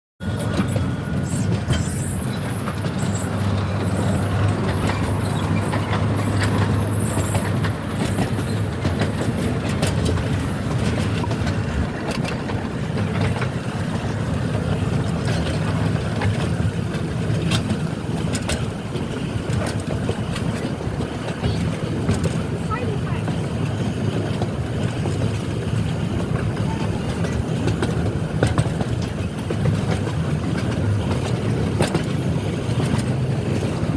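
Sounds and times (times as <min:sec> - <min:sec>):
train rumble: 0:00.2 - 0:33.9.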